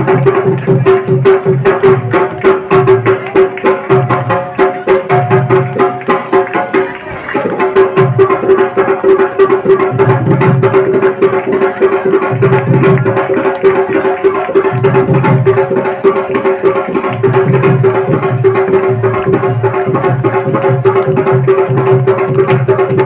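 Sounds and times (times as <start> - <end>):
fast hand-drum percussion: 0.0 - 23.0.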